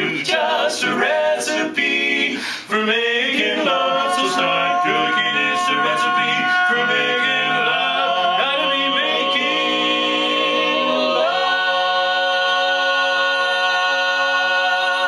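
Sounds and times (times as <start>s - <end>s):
male quartet singing a cappella: 0.0s - 15.0s.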